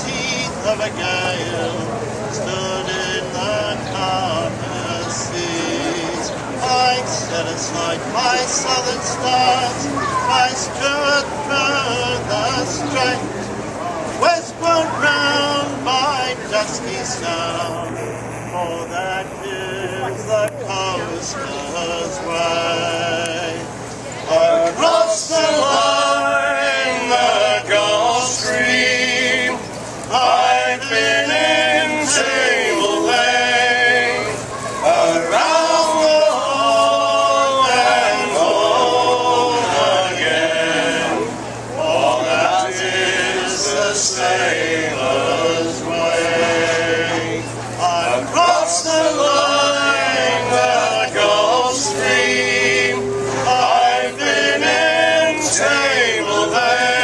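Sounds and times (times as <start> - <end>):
men singing a sea shanty: 0.0 - 57.0.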